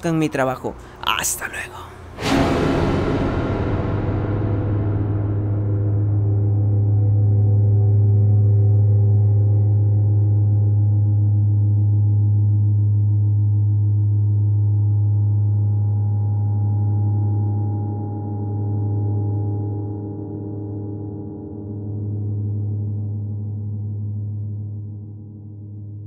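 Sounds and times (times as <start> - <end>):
deep held tone music: 2.0 - 26.0.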